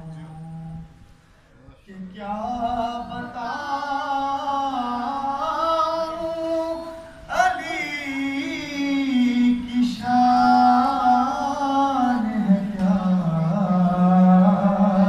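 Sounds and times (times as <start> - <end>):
man singing unaccompanied: 1.8 - 15.0.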